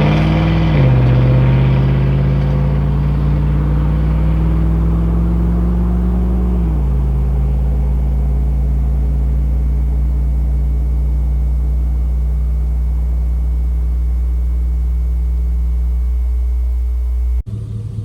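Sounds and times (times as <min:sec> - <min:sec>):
truck exhaust droning: 0:00.0 - 0:18.0.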